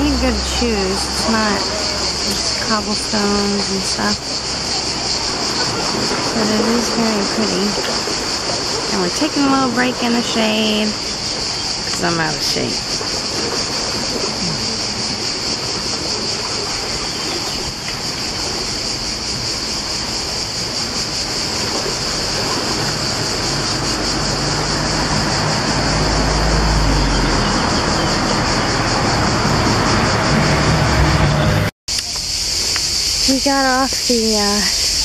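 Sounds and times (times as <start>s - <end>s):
insects buzzing: 0.0s - 31.2s, 31.9s - 35.0s.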